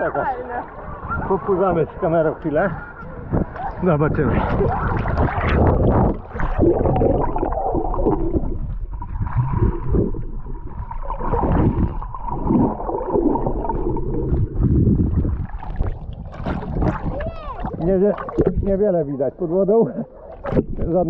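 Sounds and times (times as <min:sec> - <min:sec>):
underwater gurgling: 0:00.0 - 0:21.0
water sloshing against camera: 0:00.0 - 0:21.0.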